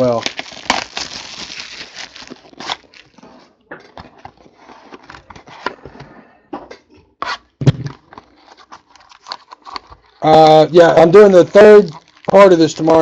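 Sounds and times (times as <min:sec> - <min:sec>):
card packaging rustling and clicking: 0:00.0 - 0:06.1, 0:07.6 - 0:13.0.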